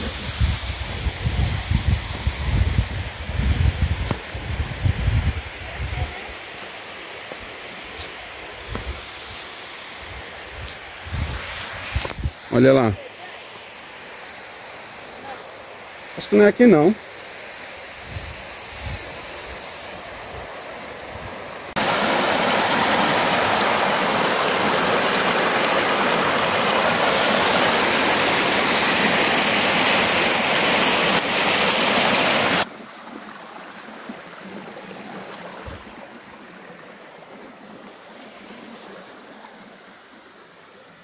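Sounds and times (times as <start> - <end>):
faint hiss of water: 0.0 - 41.0
stream rushing over rapids: 3.2 - 41.0.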